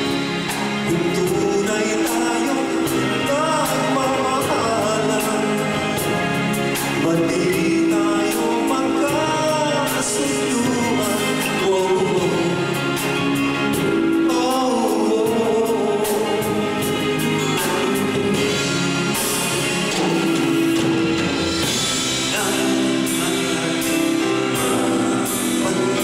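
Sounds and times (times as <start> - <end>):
drum kit with ticking cymbals: 0.0 - 26.0
men singing into microphones: 0.8 - 20.6, 22.0 - 26.0.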